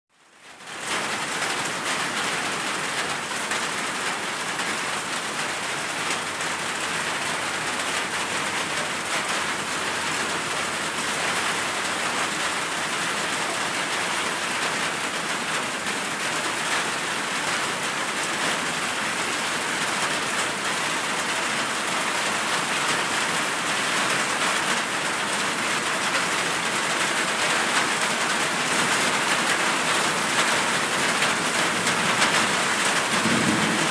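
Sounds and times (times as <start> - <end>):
heavy rain: 0.2 - 33.9.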